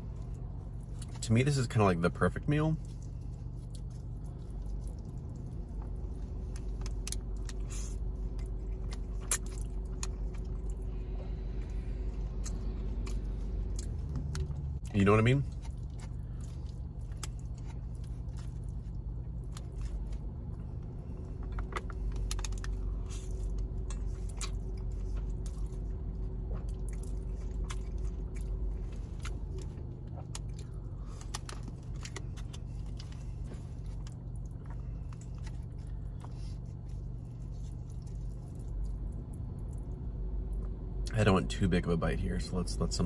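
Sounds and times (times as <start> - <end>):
low rumble: 2.1 - 41.1
man eating spaghetti: 2.8 - 39.0.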